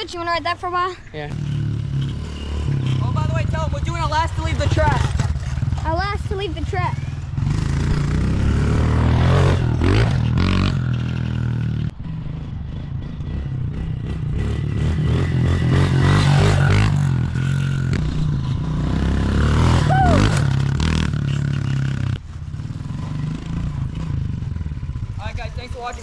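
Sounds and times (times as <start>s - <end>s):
dirt bike engine running: 1.4s - 25.7s.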